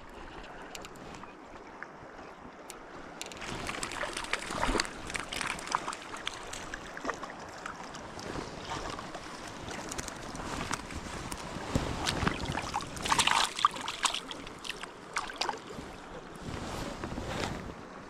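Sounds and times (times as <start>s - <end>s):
river water splashing: 0.0s - 18.0s.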